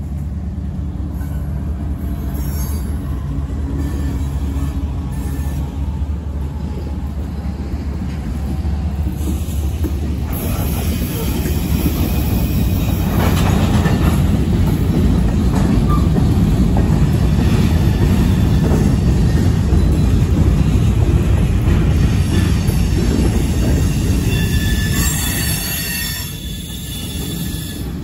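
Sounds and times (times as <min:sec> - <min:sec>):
diesel locomotive engine drone: 0:00.0 - 0:28.0
train wheels clattering on rails: 0:00.0 - 0:28.0.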